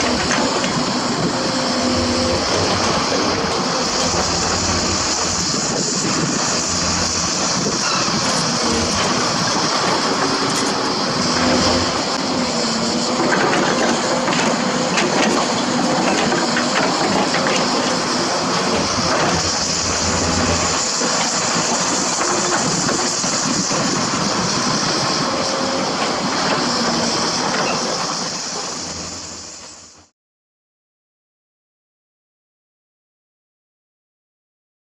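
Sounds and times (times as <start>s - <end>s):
excavator engine under load: 0.0s - 30.0s.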